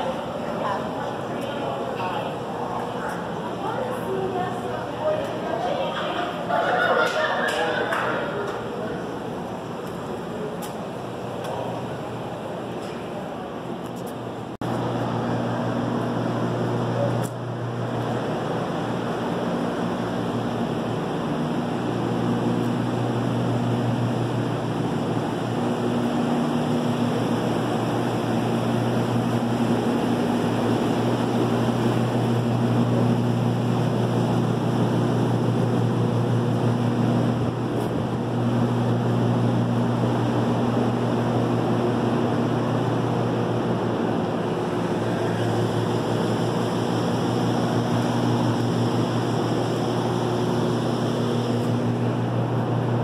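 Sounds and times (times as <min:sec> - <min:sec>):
low mechanical drone: 0:00.0 - 0:53.0.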